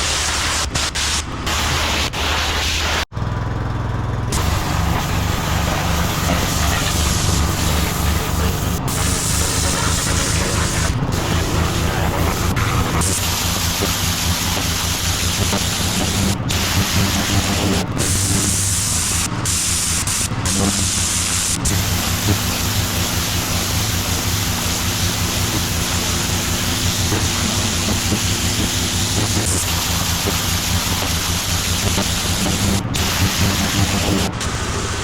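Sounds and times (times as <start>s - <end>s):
pressure washer spray hissing: 0.0s - 3.0s, 4.3s - 35.0s
petrol engine humming: 3.1s - 35.0s.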